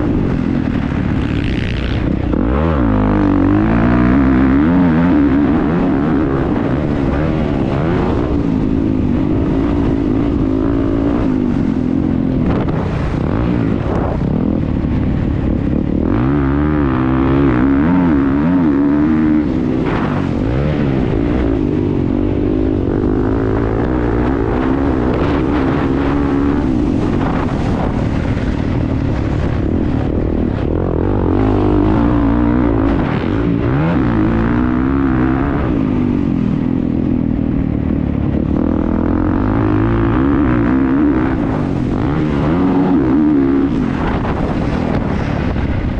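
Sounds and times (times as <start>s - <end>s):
motocross motorcycle engine racing: 0.0s - 45.9s.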